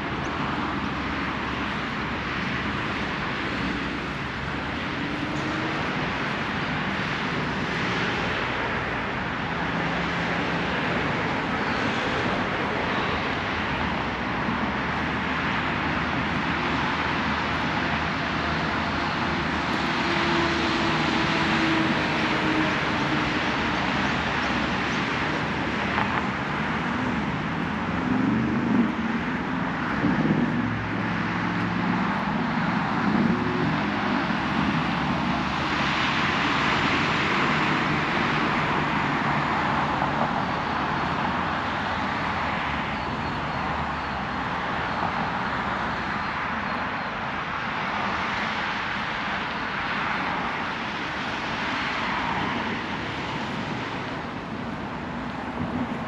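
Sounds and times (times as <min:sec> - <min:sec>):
loud vehicle passing: 0:00.0 - 0:45.8
cars passing: 0:00.0 - 0:56.0.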